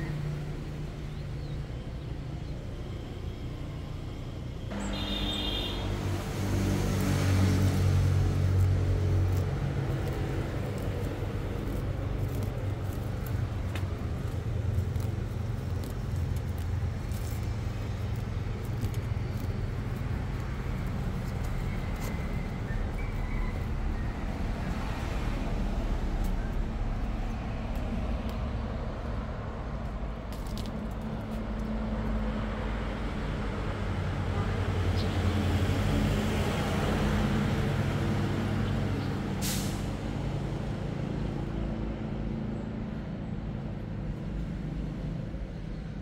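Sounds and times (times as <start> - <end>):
vehicle engine hum: 0.0 - 46.0.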